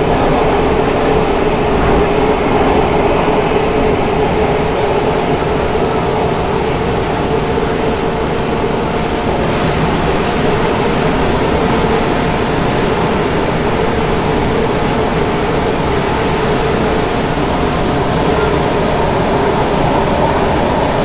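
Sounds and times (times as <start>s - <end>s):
steady hum: 0.0s - 21.0s
train rumbling on track: 0.0s - 21.0s.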